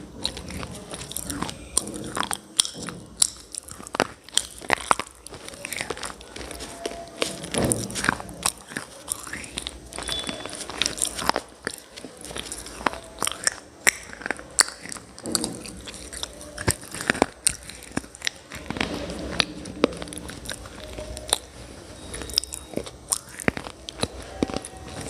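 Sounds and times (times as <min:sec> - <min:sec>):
grinding chewing: 0:00.0 - 0:25.0
person crunching brittle pieces: 0:00.0 - 0:25.0.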